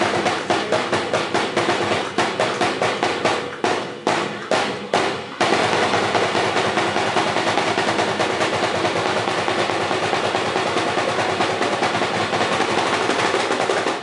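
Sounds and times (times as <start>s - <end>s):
rapid loud drum beats: 0.0s - 14.0s.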